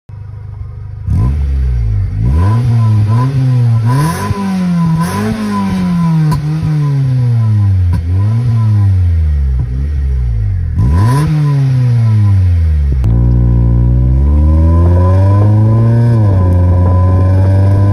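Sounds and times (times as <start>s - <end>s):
car engine idling: 0.1s - 14.8s
car engine revving: 0.2s - 17.9s.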